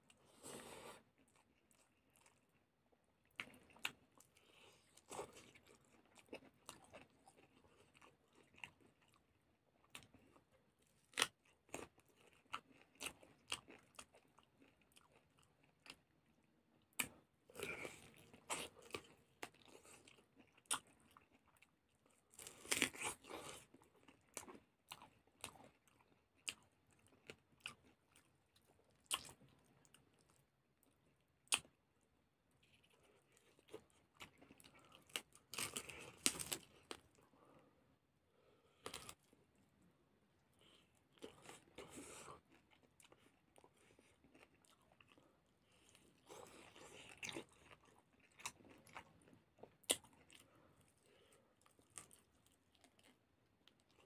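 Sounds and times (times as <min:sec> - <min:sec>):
person chewing food: 0:00.0 - 0:37.7, 0:38.4 - 0:54.0.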